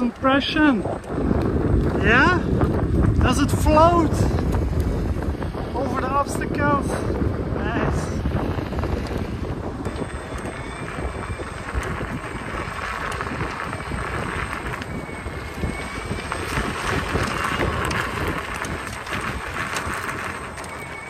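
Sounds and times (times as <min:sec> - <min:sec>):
gravel clicks and crunches: 0:00.0 - 0:21.0
tyres rolling on gravel: 0:00.0 - 0:21.0
wind on microphone: 0:00.0 - 0:21.0.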